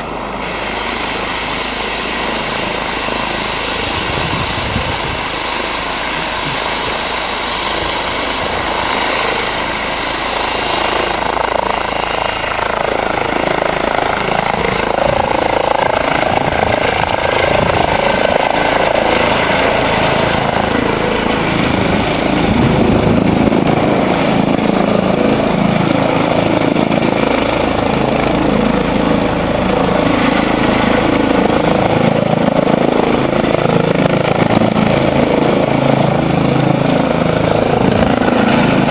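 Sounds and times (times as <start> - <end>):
helicopter turbine and rotor running: 0.0 - 38.9.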